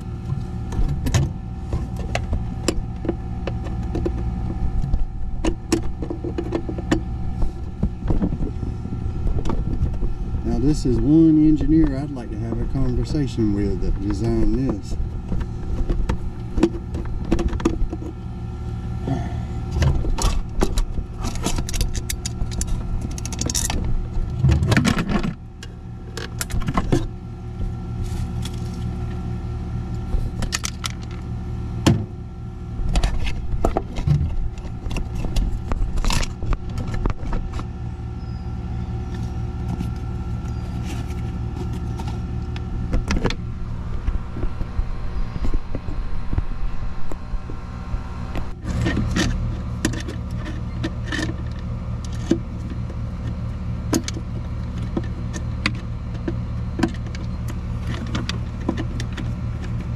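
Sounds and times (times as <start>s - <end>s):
air conditioning machinery hum: 0.0s - 59.9s.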